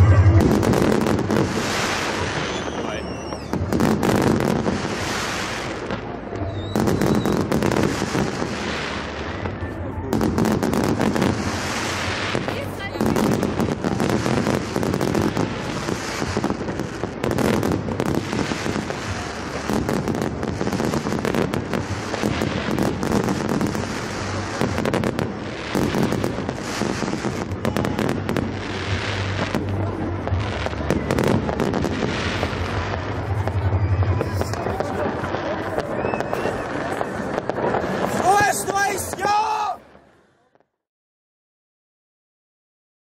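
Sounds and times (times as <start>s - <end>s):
fireworks bangs and crackles: 0.0s - 40.8s.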